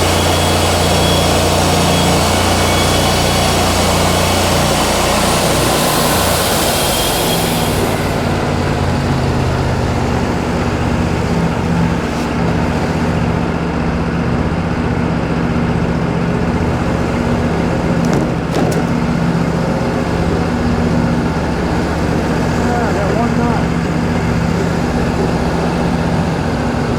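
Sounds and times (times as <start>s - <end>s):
sawmill engine running: 0.0s - 26.9s.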